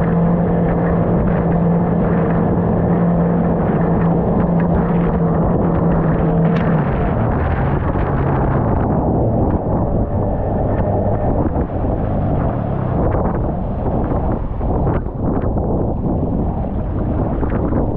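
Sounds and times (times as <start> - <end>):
outboard motor running: 0.0 - 17.9
rough water: 0.0 - 17.9
wind: 0.0 - 17.9.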